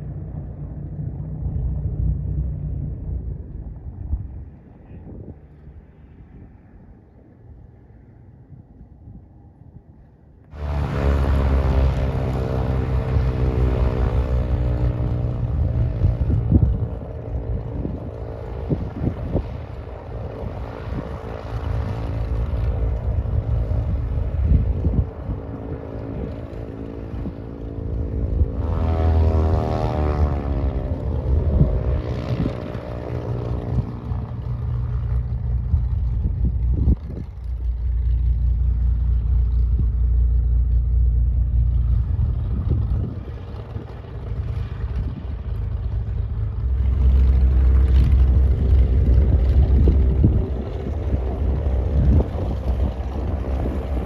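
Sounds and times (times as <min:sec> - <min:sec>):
propeller airplane engine: 0:00.0 - 0:54.0.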